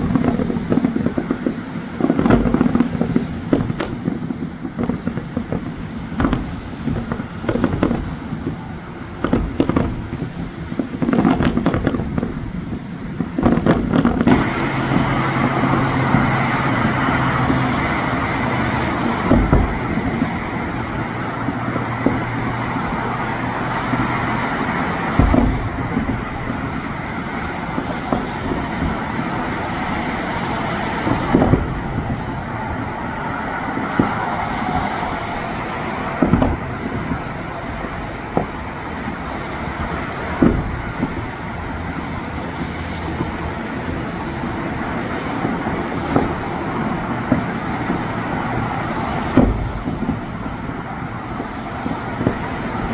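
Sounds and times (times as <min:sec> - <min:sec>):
fireworks booming: 0:00.0 - 0:52.9
road traffic din: 0:00.0 - 0:52.9.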